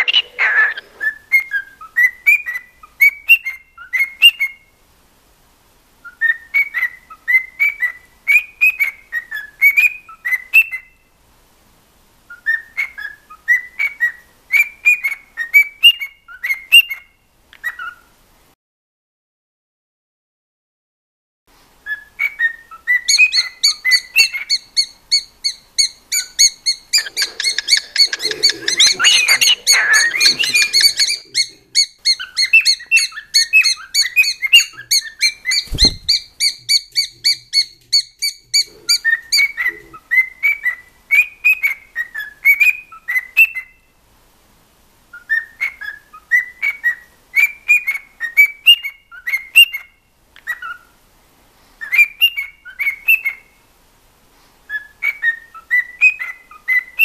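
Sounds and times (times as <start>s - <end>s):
cockatiel whistling and chirping: 0.0s - 4.7s, 6.0s - 11.1s, 12.3s - 18.1s, 21.8s - 43.9s, 45.1s - 50.9s, 51.8s - 53.6s, 54.7s - 57.0s.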